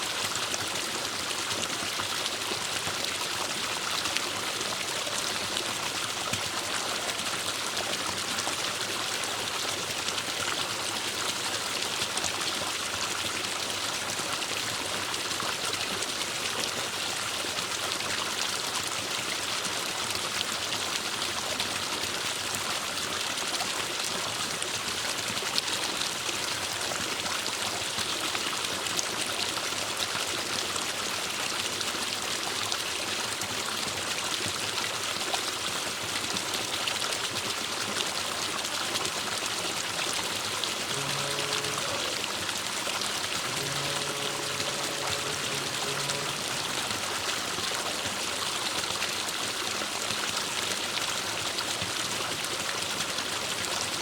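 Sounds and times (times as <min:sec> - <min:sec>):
stream splashing over rocks: 0:00.0 - 0:54.0.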